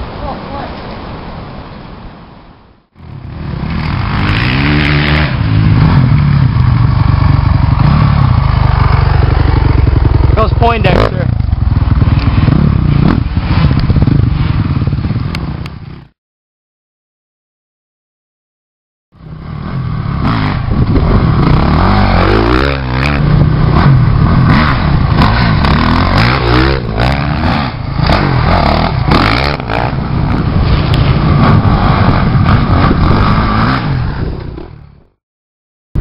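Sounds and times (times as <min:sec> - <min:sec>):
motorcycle engine revving: 0:03.0 - 0:16.1, 0:19.2 - 0:35.0.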